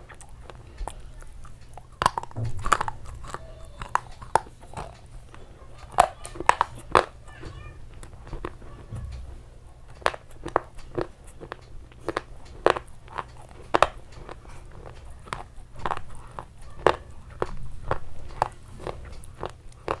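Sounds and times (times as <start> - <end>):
crunchy food being chewed: 0.0 - 20.0.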